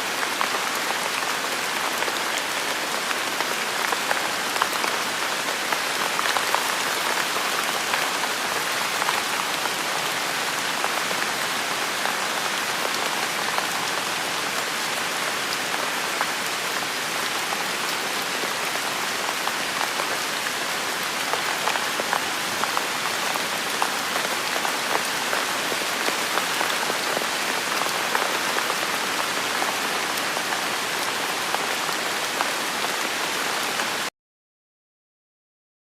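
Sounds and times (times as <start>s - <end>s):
steady rain falling: 0.0s - 34.1s.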